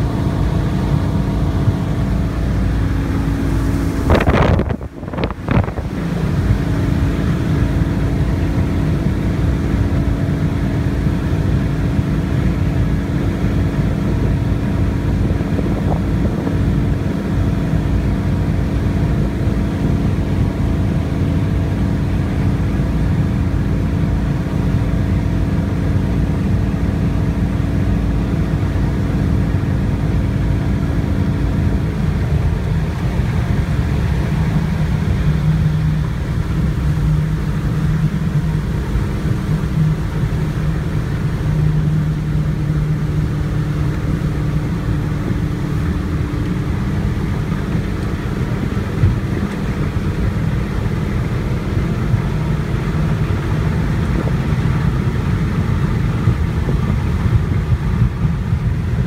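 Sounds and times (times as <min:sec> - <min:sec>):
motorboat engine droning: 0:00.0 - 0:59.0.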